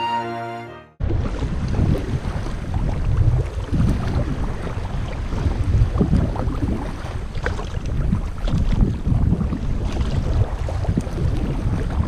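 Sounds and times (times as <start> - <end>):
water sloshing around kayak: 1.0 - 12.0
wind buffeting microphone: 1.0 - 12.0.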